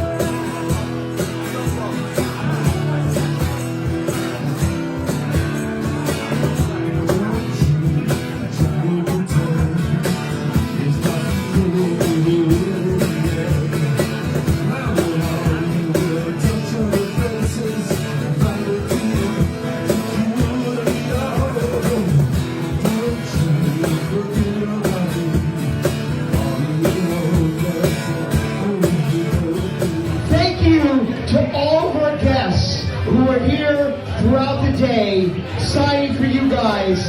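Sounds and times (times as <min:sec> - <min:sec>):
person singing: 0:00.0 - 0:33.7
guitar: 0:00.0 - 0:37.0
rock band playing: 0:00.0 - 0:37.0
steady drum beat: 0:00.0 - 0:37.0.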